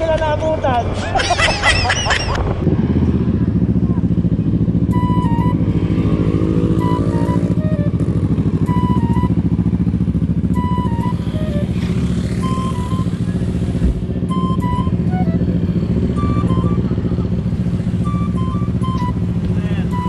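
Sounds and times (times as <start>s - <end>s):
motorcycle engines idling: 0.0s - 20.0s
motorcycle engine revving: 1.7s - 20.0s.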